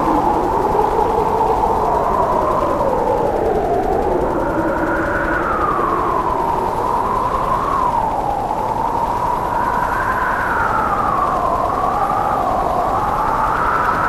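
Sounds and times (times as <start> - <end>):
steady rushing noise: 0.0 - 14.0
wavering two-tone howl: 0.0 - 14.0.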